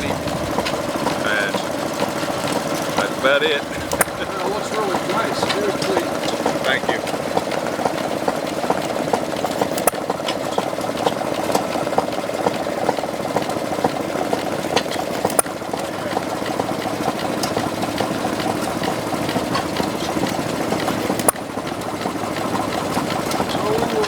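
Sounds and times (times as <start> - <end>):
model engine running steadily: 0.0 - 24.0
sharp clicks: 0.0 - 24.0.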